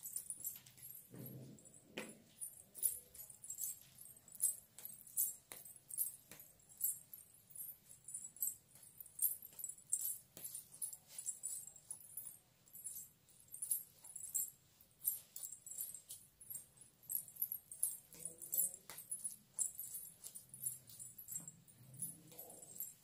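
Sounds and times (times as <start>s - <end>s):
ankle bells jingling with steps: 0.0s - 23.0s.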